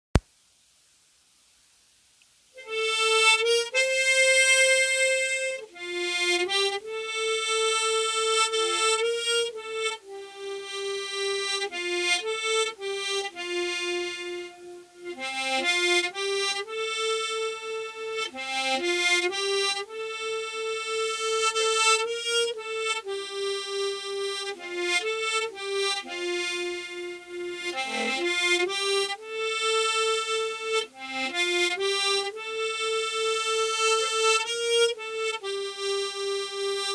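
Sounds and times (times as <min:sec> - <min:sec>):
harmonica melody: 0:02.6 - 0:36.9.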